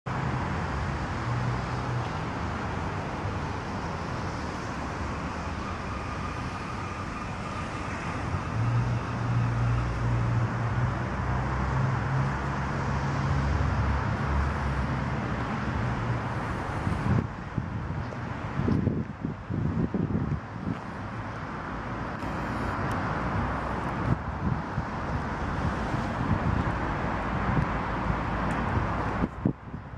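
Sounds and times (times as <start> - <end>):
road traffic noise: 0.1 - 29.9.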